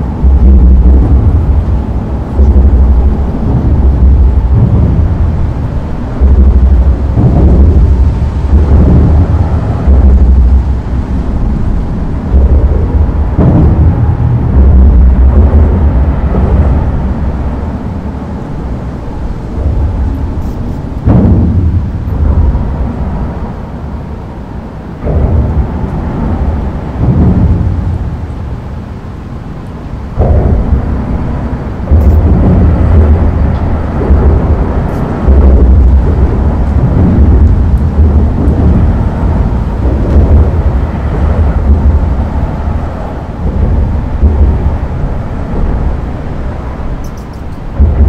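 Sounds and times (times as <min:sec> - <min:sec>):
traffic rumbling over bridge: 0:00.0 - 0:48.0.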